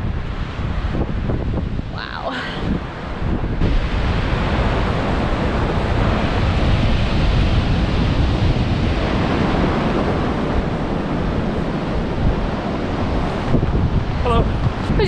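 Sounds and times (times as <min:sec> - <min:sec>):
wind buffeting microphone: 0:00.0 - 0:15.0
surf breaking on pebbles: 0:02.8 - 0:15.0.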